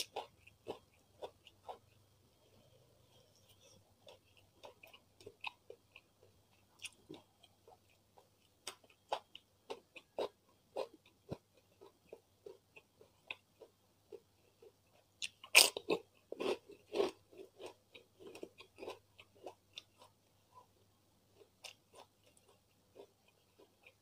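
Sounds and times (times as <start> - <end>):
mouth chewing clicks and smacks: 3.9 - 20.8, 21.4 - 24.0.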